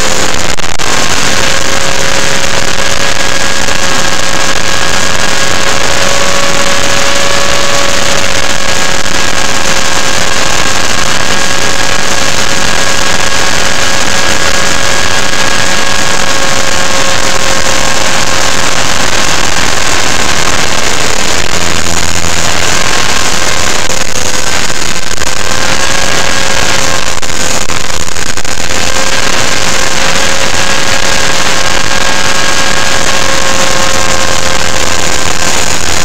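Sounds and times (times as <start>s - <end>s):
motor and gear whine: 0.0s - 36.0s
rotor wash rushing: 0.0s - 36.0s.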